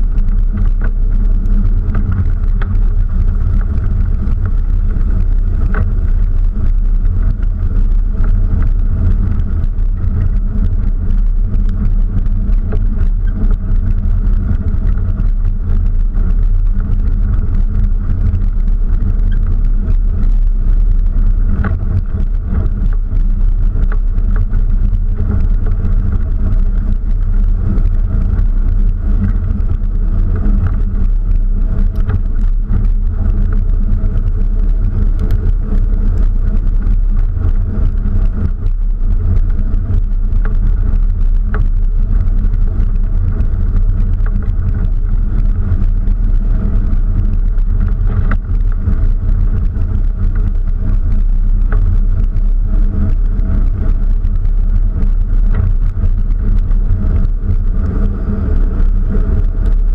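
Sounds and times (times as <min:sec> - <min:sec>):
off-road vehicle engine rumble: 0:00.0 - 0:59.9
small clicks and rattles: 0:00.0 - 0:59.9.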